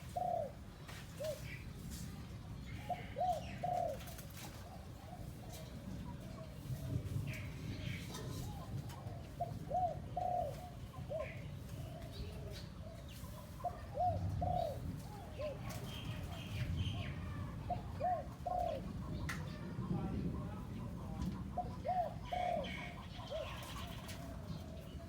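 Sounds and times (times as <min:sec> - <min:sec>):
dove cooing: 0:00.0 - 0:01.7, 0:02.7 - 0:25.0.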